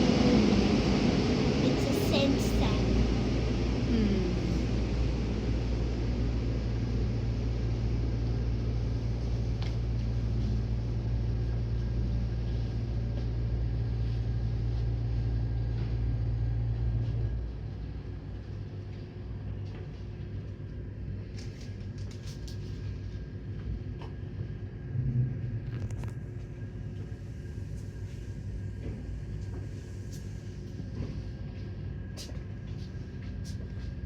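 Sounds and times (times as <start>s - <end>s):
car wash machinery rumbling: 0.0s - 33.8s.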